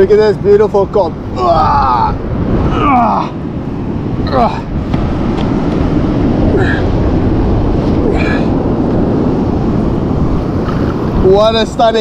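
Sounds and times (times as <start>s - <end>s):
surf washing on beach: 0.0s - 12.0s
wind buffeting microphone: 0.0s - 12.0s.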